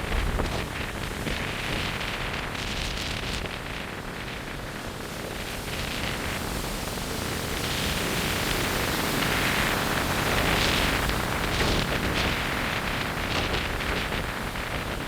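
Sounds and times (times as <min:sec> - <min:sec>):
storm wind on microphone: 0:00.0 - 0:15.0.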